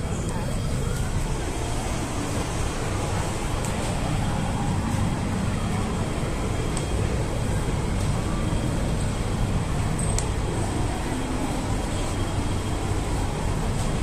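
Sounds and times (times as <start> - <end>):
train interior rumble and hum: 0.0 - 14.0.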